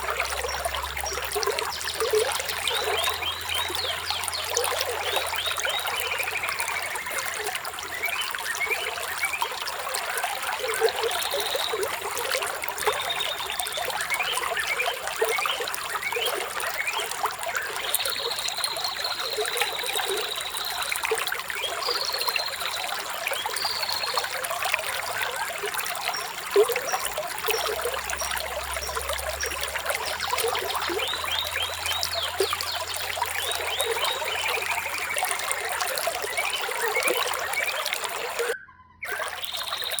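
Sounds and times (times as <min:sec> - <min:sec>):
birds chirping: 0:00.0 - 0:40.0
stream water trickling: 0:00.0 - 0:40.0.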